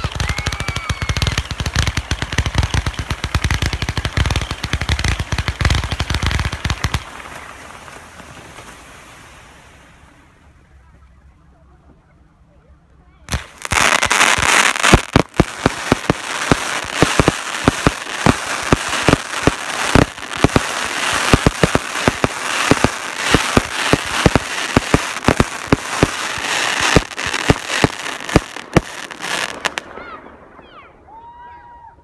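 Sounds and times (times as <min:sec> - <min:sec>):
fireworks bangs: 0:00.0 - 0:09.3, 0:13.3 - 0:30.6
fireworks crackling: 0:00.0 - 0:10.2, 0:13.3 - 0:30.1.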